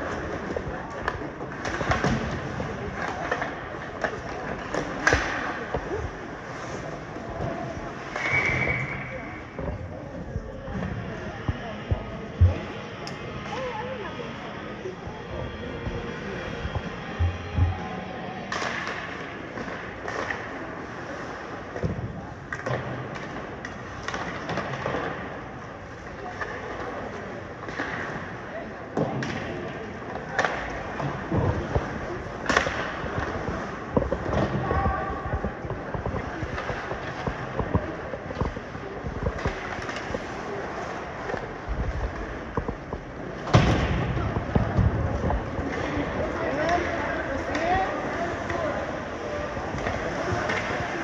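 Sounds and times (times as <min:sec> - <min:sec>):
hockey sticks and puck clicks: 0:00.0 - 0:09.6, 0:18.4 - 0:51.0
skates on ice: 0:00.0 - 0:10.2, 0:18.5 - 0:51.0
arena noise: 0:00.0 - 0:51.0
crowd noise: 0:00.0 - 0:51.0.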